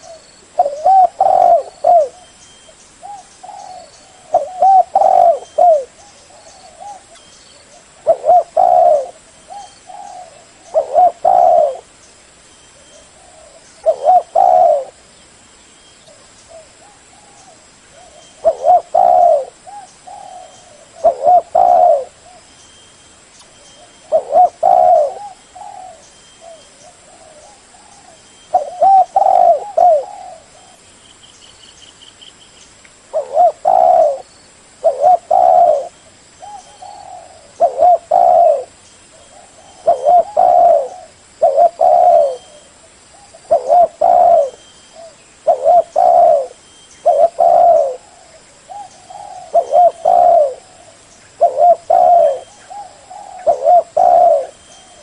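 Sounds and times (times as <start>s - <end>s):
dove cooing: 0.0s - 2.4s, 3.0s - 11.9s, 12.8s - 15.0s, 16.1s - 22.5s, 23.8s - 30.8s, 33.1s - 55.0s.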